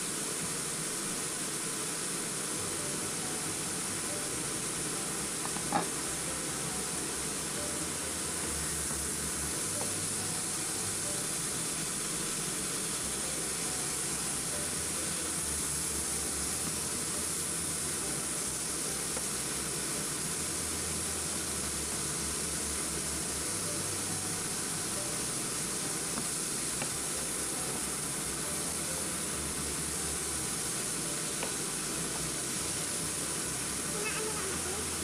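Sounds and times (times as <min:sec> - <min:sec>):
chicken sizzling in a pan: 0:00.0 - 0:35.0.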